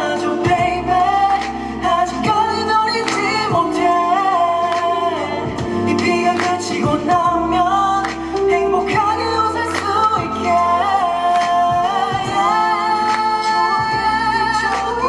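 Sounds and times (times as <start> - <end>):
person singing live pop song: 0.0 - 15.0.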